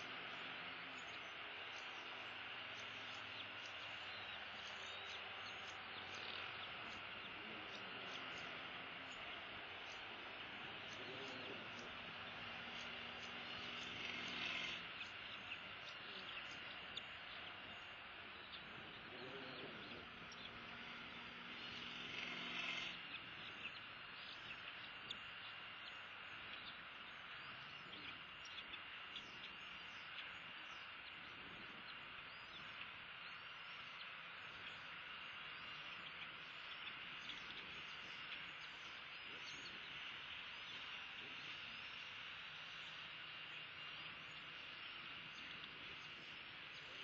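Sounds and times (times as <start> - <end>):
faint low hum: 0.0 - 47.0
insects droning: 0.0 - 47.0.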